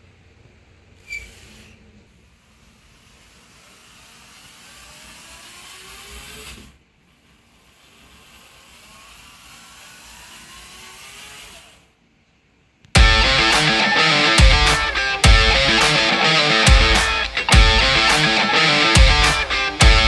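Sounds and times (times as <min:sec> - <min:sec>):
electric motors whining: 0:02.7 - 0:12.0, 0:13.0 - 0:20.0.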